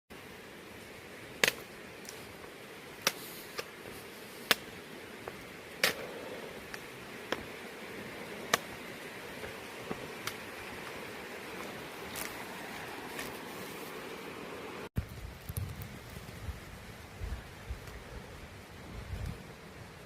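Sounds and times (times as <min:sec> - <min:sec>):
faint hiss: 0:00.1 - 0:20.0.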